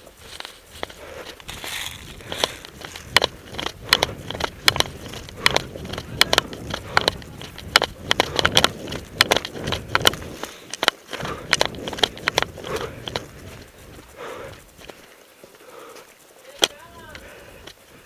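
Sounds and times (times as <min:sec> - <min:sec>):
footsteps crunching on frozen leaves: 0:00.0 - 0:15.5.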